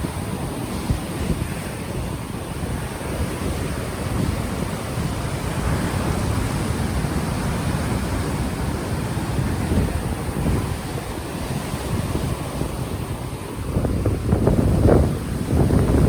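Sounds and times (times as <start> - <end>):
ocean waves washing on shore: 0.0 - 16.0
wind buffeting microphone: 0.0 - 16.0.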